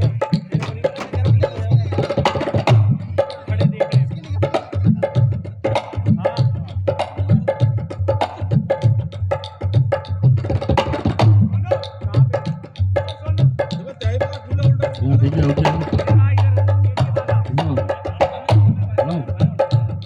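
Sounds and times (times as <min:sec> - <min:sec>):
dholak drum rhythm: 0:00.0 - 0:20.0.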